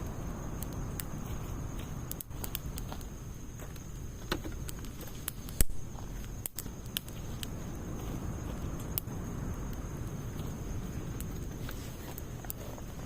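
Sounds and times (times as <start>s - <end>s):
low rush of fire: 0.0s - 13.0s
wood fire crackling: 0.0s - 13.0s.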